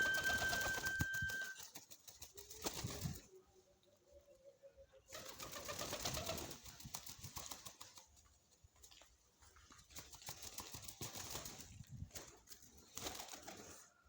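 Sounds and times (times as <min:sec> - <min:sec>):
pigeons clicking and rustling: 0:00.0 - 0:03.3, 0:05.1 - 0:14.0.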